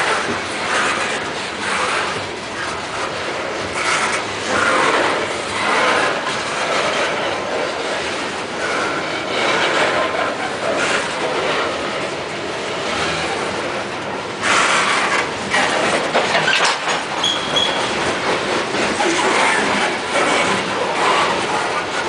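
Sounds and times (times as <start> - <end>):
freight cars rolling past: 0.0 - 22.0
steel wheels clattering over rail joints: 0.0 - 22.0.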